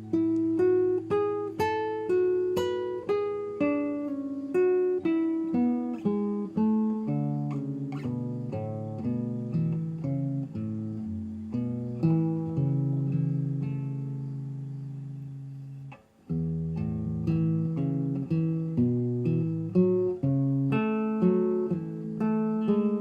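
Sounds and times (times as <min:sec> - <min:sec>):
acoustic guitar picking slow melody: 0:00.0 - 0:23.0.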